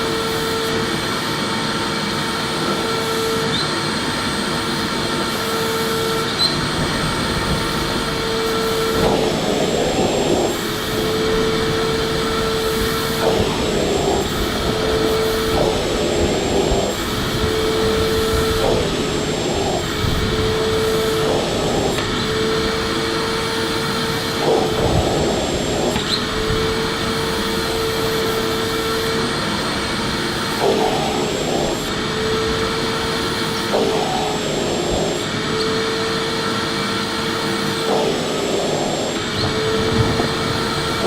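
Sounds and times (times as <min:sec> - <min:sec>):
vacuum cleaner whine: 0:00.0 - 0:41.0.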